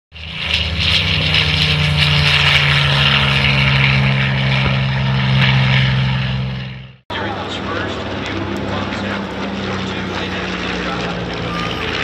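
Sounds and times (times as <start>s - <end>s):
propeller aircraft engine running: 0.1s - 12.0s.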